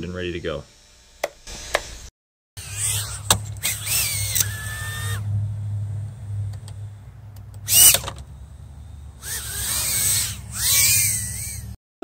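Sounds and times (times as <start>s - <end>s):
steady low hum: 0.0s - 11.8s
small motors whirring: 0.3s - 11.8s.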